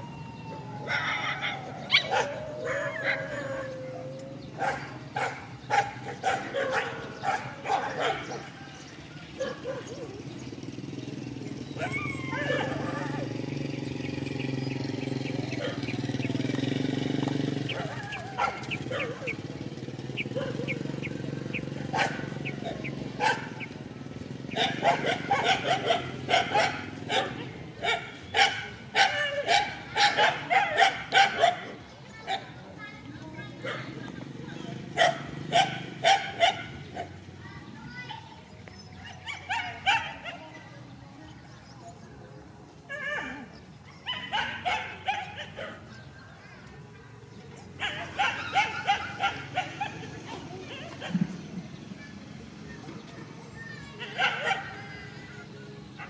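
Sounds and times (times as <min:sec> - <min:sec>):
dogs barking: 0:00.0 - 0:10.6, 0:11.5 - 0:13.6, 0:14.5 - 0:32.7, 0:33.6 - 0:37.3, 0:39.0 - 0:40.6, 0:42.8 - 0:46.1, 0:47.6 - 0:51.5, 0:53.8 - 0:55.3.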